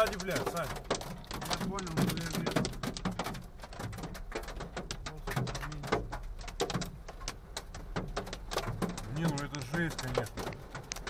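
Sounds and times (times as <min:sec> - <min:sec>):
hail and rain on car roof: 0:00.0 - 0:11.0.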